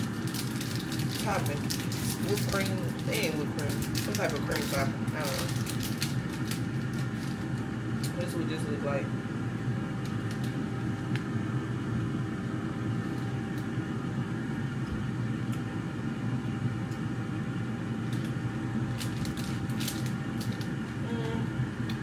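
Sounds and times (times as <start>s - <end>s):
air fryer fan hum: 0.0s - 22.0s.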